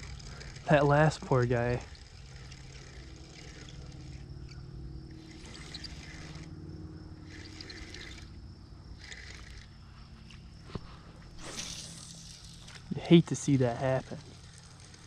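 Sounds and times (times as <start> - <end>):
creek water trickling: 0.0 - 15.0.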